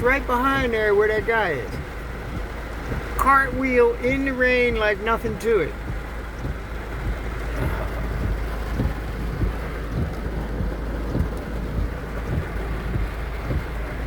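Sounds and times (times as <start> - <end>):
heavy rain pouring: 0.0 - 14.0
low rumble: 0.0 - 14.0.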